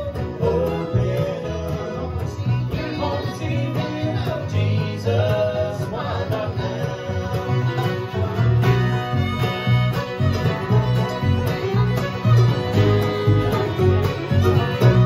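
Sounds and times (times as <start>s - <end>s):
bluegrass band playing: 0.0s - 15.0s
upright bass pulse: 0.0s - 15.0s.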